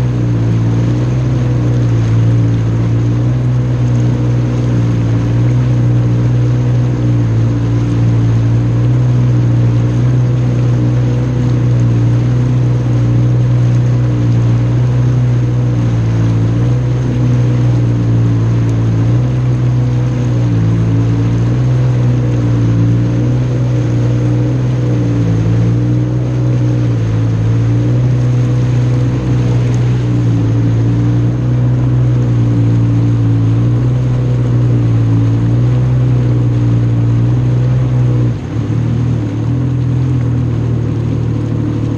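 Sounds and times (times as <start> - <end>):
jet ski engine running: 0.0 - 41.9.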